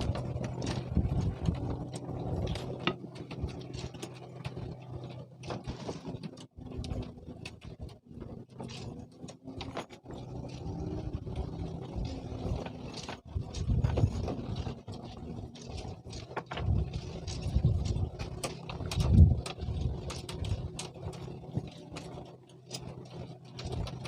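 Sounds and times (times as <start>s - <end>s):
mechanical clicks and rattles: 0.0s - 24.0s
motor humming: 0.0s - 24.0s.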